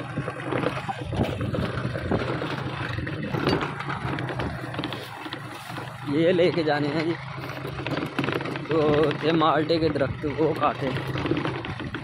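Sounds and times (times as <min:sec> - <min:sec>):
knocks and rattles: 0:00.0 - 0:12.0
vehicle rumbling on rough track: 0:00.0 - 0:12.0.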